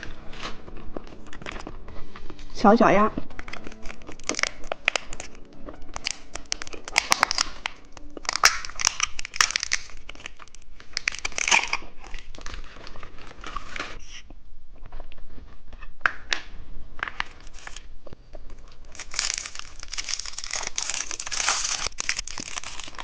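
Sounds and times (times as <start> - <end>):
candy wrapper crinkling: 0.0 - 2.5, 3.1 - 14.2, 17.0 - 17.9, 18.5 - 23.0.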